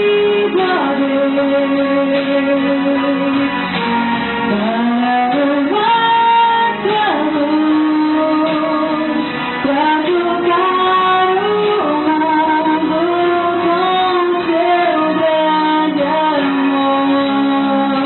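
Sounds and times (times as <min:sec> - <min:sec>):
instrumental accompaniment: 0:00.0 - 0:18.0
woman singing into a microphone: 0:00.0 - 0:18.0.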